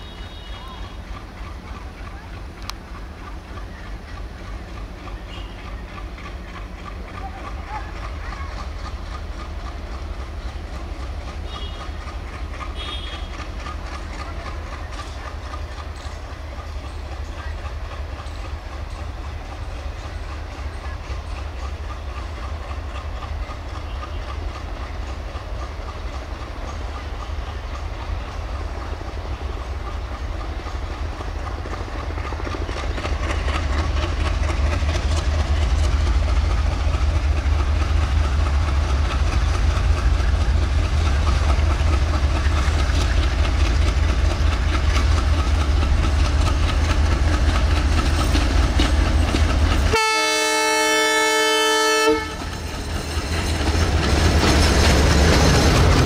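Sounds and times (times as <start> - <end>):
diesel locomotive engine rumbling: 0.0 - 56.0.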